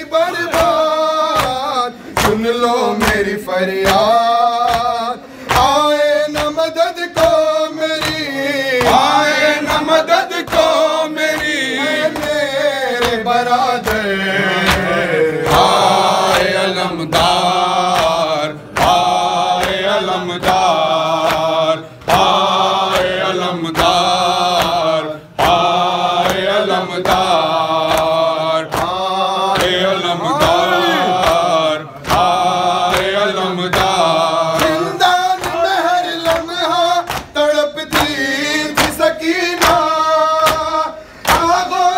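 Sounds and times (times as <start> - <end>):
men chanting a lament: 0.0 - 41.9
sharp rhythmic beats: 0.0 - 41.9.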